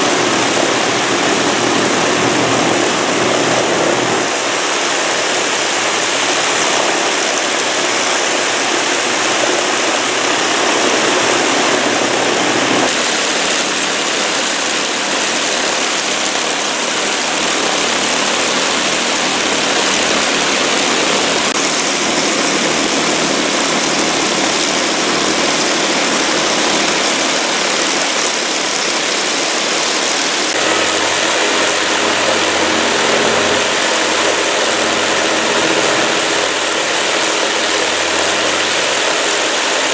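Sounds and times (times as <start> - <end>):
piston aircraft engines droning: 0.0 - 39.9.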